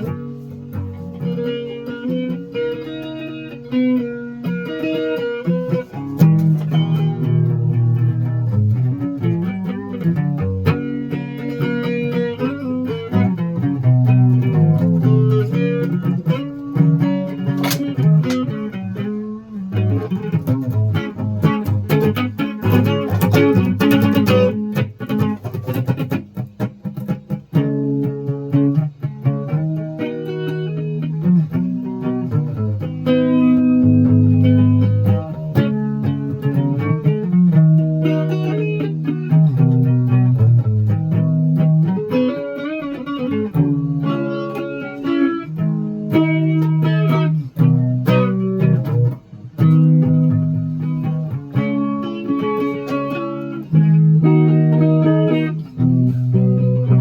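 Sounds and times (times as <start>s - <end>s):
guitar plucked notes: 0.0s - 57.0s.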